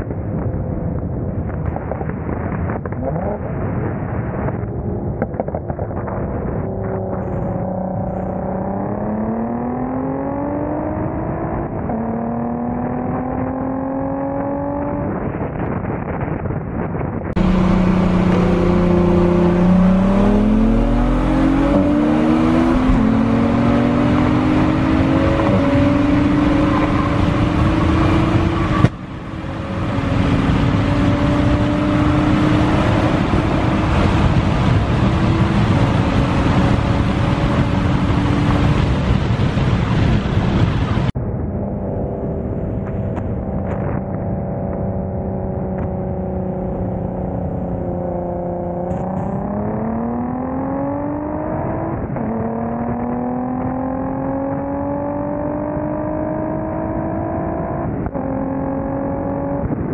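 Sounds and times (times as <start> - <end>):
car engine accelerating: 1.6 - 15.7, 17.3 - 59.9.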